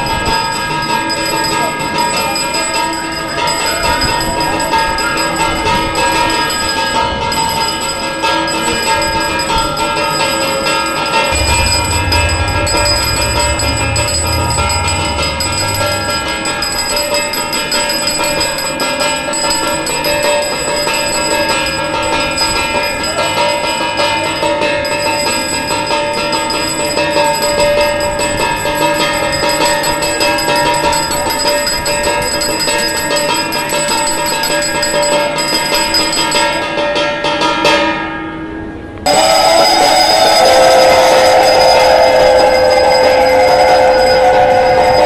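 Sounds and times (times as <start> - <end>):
bells ringing rapidly: 0.0 - 37.1, 39.1 - 45.0.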